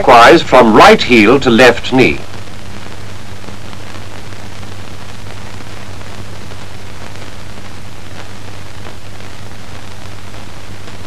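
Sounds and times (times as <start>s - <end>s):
constant low hum: 0.0s - 11.0s
film soundtrack hiss: 0.0s - 11.0s.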